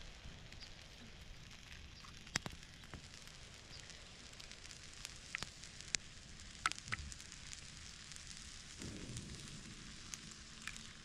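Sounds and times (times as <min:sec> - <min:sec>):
campfire crackling and popping: 0:00.0 - 0:11.0
food sizzling in pan: 0:00.0 - 0:11.0.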